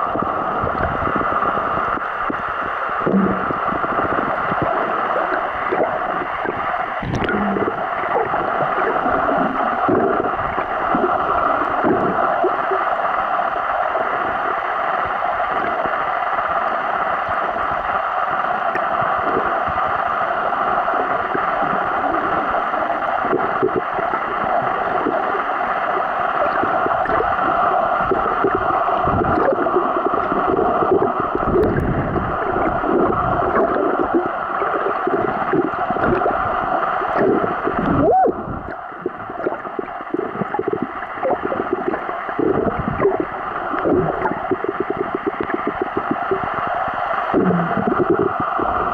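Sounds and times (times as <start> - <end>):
underwater rushing: 0.0 - 48.9
water gurgling and sloshing: 0.0 - 48.9.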